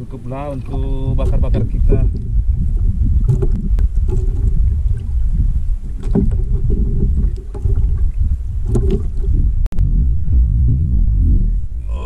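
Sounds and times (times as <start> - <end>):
water sloshing around boat: 0.0 - 9.7
low rumble: 0.0 - 12.0.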